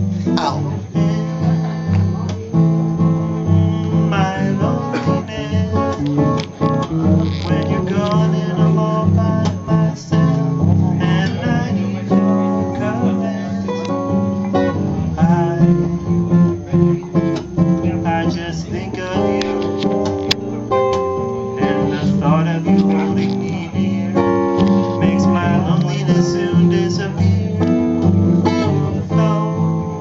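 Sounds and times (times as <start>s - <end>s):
acoustic guitar strumming and picking: 0.0s - 30.0s.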